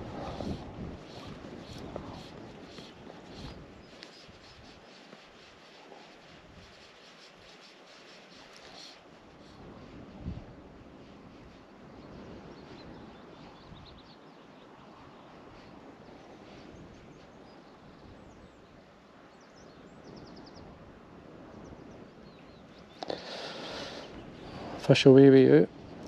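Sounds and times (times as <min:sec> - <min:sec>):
small birds chirping: 0:00.0 - 0:09.6, 0:11.9 - 0:18.8, 0:21.6 - 0:26.0
outdoor background noise: 0:00.0 - 0:26.0.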